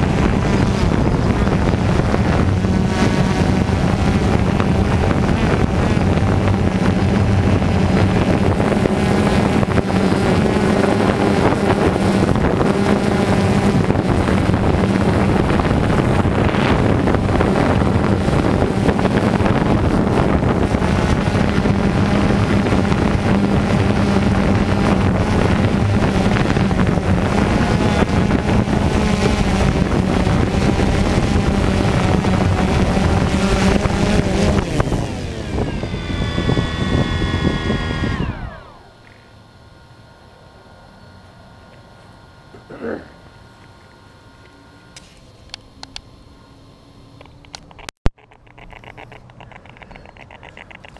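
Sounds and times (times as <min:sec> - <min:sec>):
drone propellers buzzing: 0:00.0 - 0:50.9.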